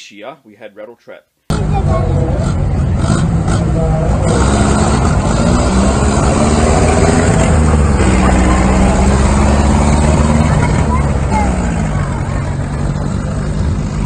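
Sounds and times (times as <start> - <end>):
loud car engine pulling away: 1.5 - 14.0.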